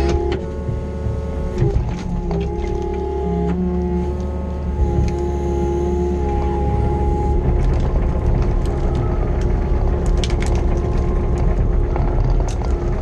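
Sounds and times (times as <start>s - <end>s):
excavator diesel engine running: 0.0s - 13.0s
wood cracking and snapping: 1.0s - 5.4s, 6.2s - 13.0s.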